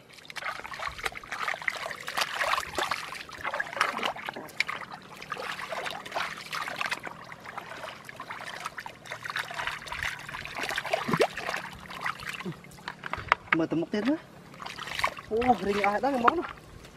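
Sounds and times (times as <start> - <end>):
hands sloshing through muddy water: 0.0 - 13.1, 13.9 - 16.9.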